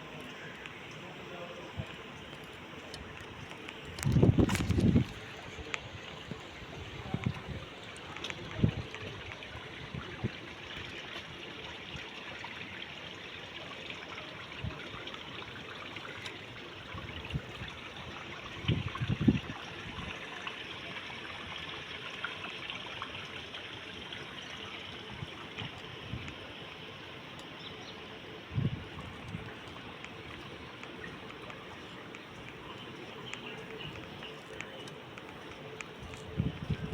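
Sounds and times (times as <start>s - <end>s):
water trickling: 0.0s - 36.9s.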